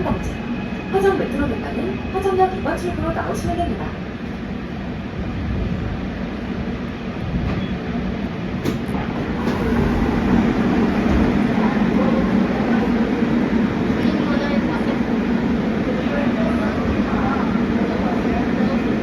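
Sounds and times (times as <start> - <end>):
subway train wheels rumbling: 0.0 - 19.0.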